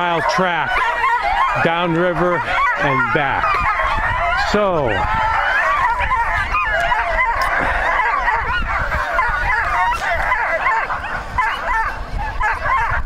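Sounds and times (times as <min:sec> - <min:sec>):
dogs yelping and yipping: 0:00.0 - 0:13.0.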